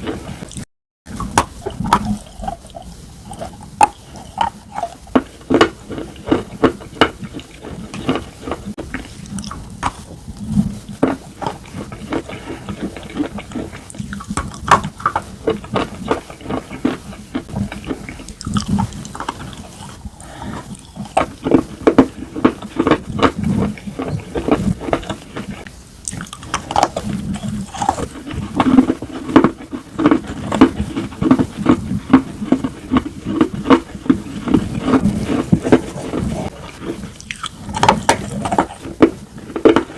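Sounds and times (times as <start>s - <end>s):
crunching with teeth: 0.0s - 39.9s
wet chewing: 0.0s - 39.9s.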